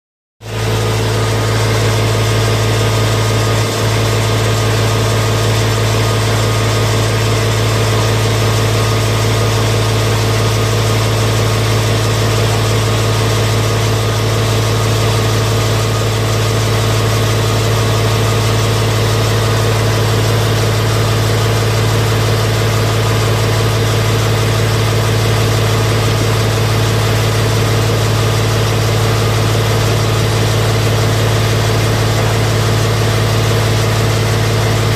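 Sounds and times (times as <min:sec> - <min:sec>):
drain jetting machine engine droning: 0:00.4 - 0:34.9.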